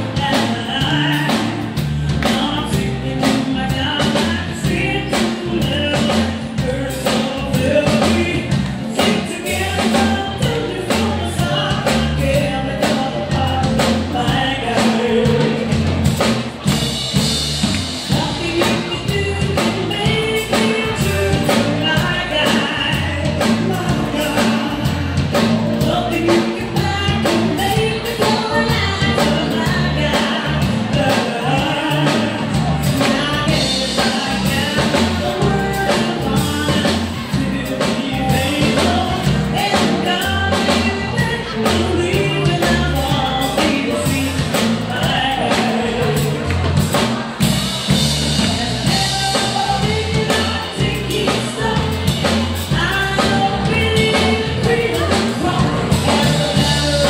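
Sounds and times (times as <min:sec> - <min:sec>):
drum kit beat: 0:00.0 - 0:57.0
live band playing: 0:00.0 - 0:57.0
person singing: 0:00.0 - 0:57.0.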